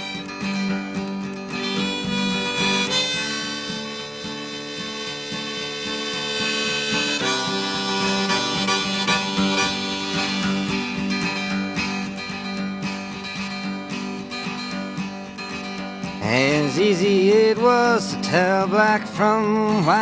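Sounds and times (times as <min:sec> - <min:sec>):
harmonica solo: 0:00.0 - 0:20.0
strummed acoustic guitar: 0:00.0 - 0:20.0.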